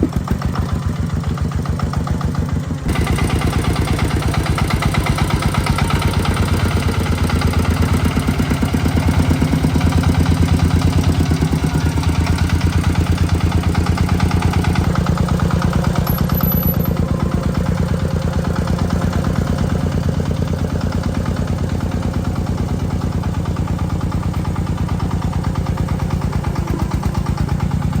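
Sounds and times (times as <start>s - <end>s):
tractor engine chugging: 0.0s - 28.0s.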